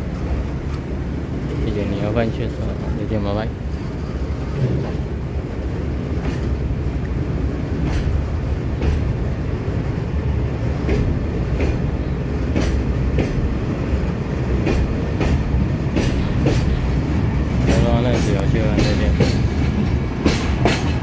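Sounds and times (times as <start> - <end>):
freight train rumbling past: 0.0 - 21.0
wheels clacking over rail joints: 0.0 - 21.0.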